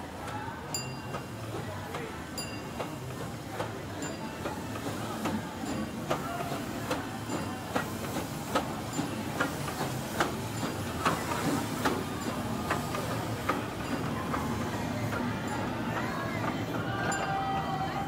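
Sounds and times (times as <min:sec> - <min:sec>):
steam train rumble: 0:00.0 - 0:18.0.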